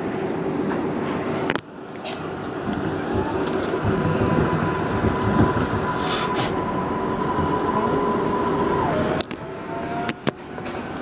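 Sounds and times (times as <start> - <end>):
subway train whine: 0.0 - 11.0
steel wheels clattering on rails: 0.6 - 11.0.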